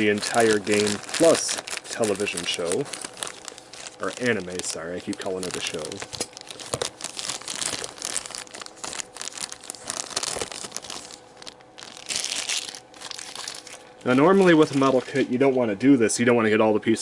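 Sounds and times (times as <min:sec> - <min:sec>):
plastic packaging crinkling: 0:00.0 - 0:15.3.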